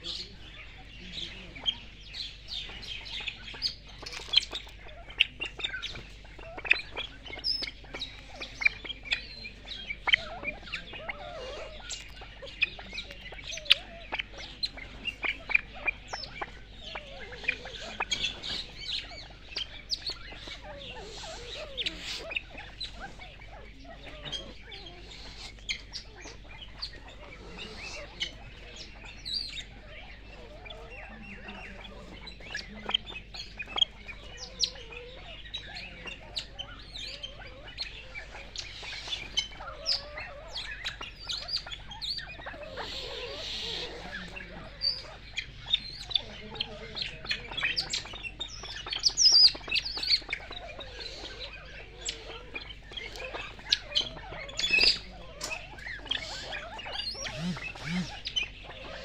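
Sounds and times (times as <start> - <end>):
birds chirping: 0.0 - 59.0
soft bird clucks: 0.0 - 59.0.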